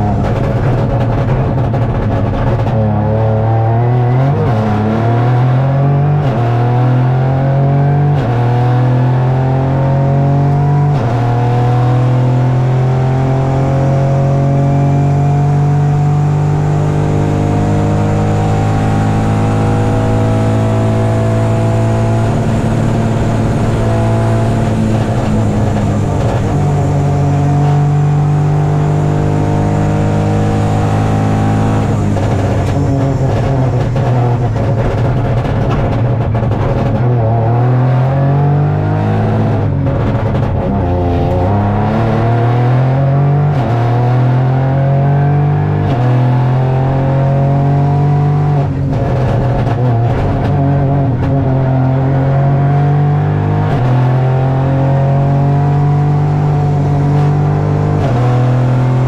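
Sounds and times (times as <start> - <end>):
car engine accelerating with gear shifts: 0.0 - 59.0.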